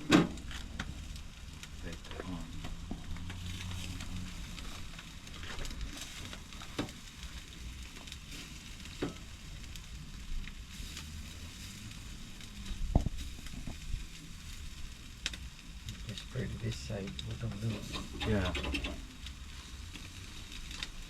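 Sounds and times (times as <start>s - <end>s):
meat sizzling on grill: 0.0s - 21.0s.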